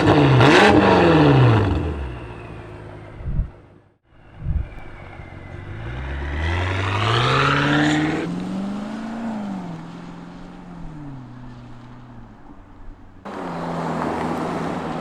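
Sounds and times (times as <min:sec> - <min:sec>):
engine exhaust accelerating hard: 0:00.0 - 0:15.0.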